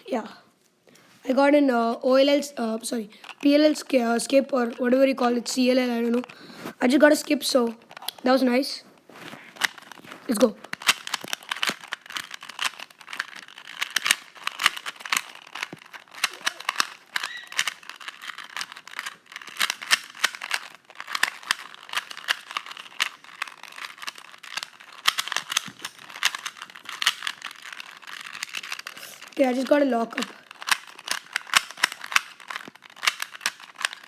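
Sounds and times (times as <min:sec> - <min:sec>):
plastic puzzle cube clicking: 0:03.2 - 0:08.2, 0:09.1 - 0:34.0.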